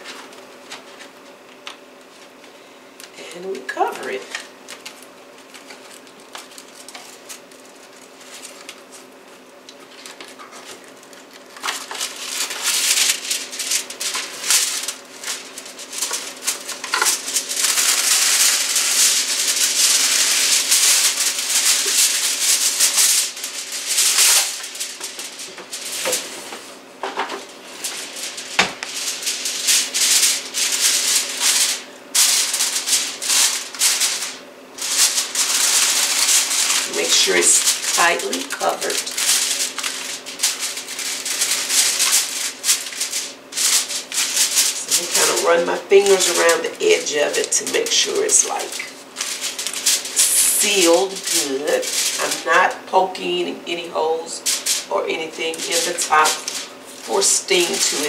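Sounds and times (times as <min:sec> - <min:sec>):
aluminum foil crinkling: 0:00.0 - 0:03.1, 0:03.7 - 0:58.0.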